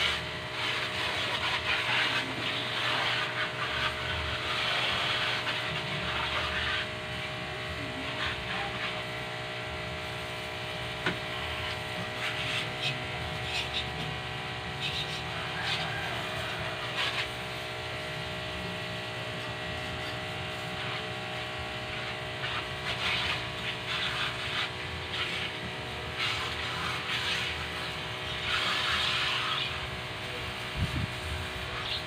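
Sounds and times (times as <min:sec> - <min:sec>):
hissing water spray: 0:00.0 - 0:32.0
pressure washer humming: 0:00.0 - 0:32.0.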